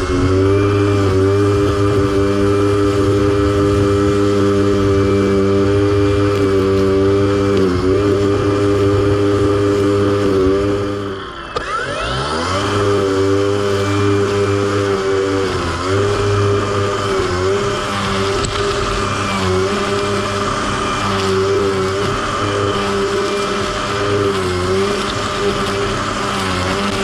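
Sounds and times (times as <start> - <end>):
lawn mower engine running: 0.0 - 27.0.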